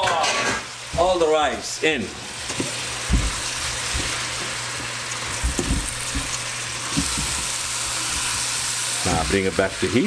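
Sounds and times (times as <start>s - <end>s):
rice sizzling in pot: 0.1s - 10.0s.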